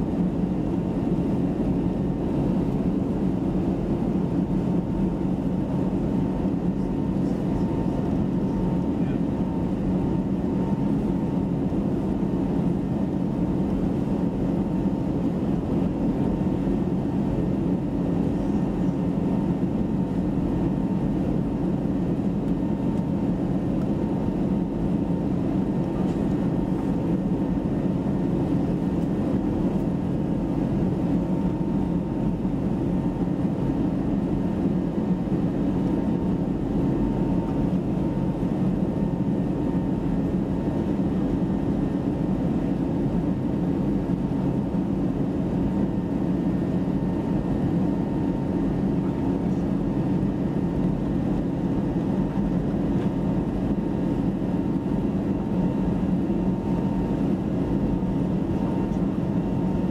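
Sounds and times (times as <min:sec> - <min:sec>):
airliner cabin engine and airflow rumble: 0:00.0 - 0:59.9.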